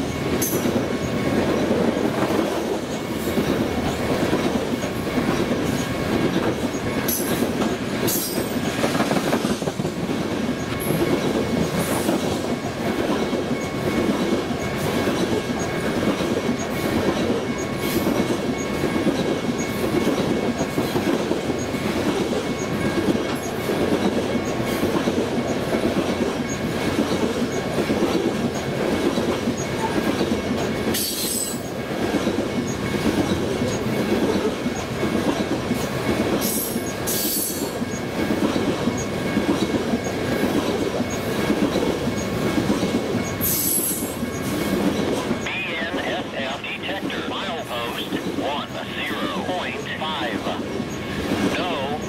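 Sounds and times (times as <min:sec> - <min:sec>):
rhythmic clacking over rail joints: 0:00.0 - 0:52.0
train wheels rumbling on rail: 0:00.0 - 0:52.0.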